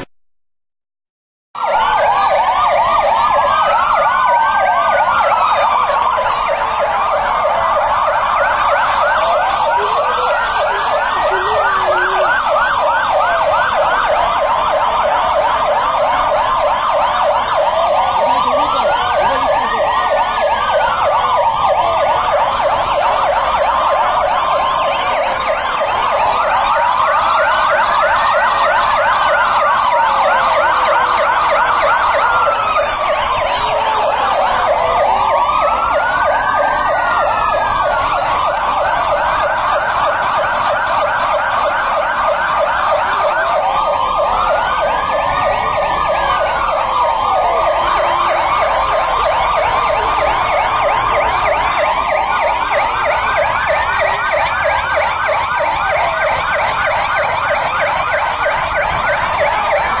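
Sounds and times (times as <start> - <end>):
fire engine sirens: 1.6 - 60.0.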